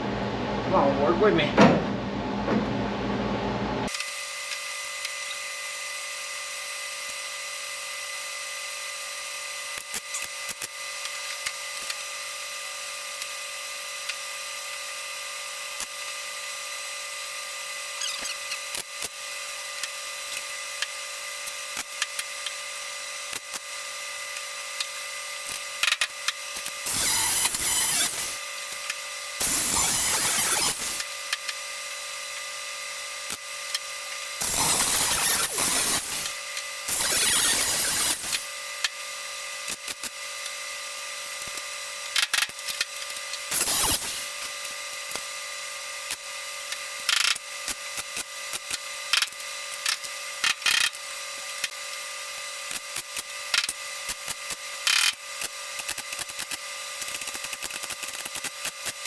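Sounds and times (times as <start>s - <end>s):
welding crackle: 3.9s - 16.5s, 17.9s - 59.0s.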